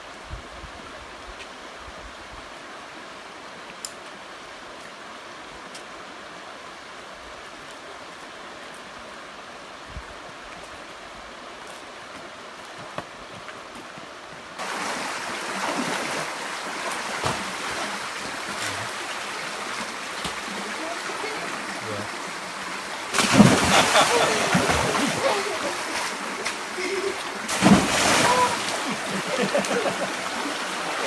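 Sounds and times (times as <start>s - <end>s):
creek water rushing over rocks: 0.0s - 31.0s.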